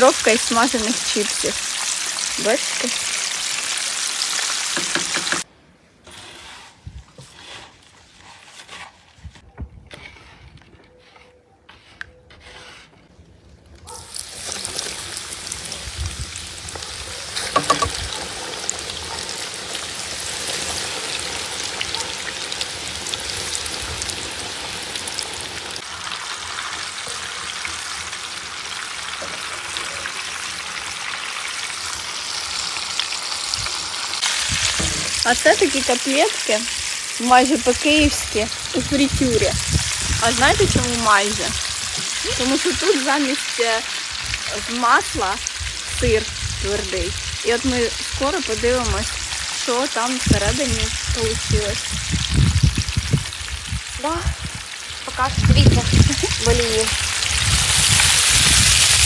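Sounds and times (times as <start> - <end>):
meat frying in hot oil: 0.0 - 5.5, 14.0 - 59.0.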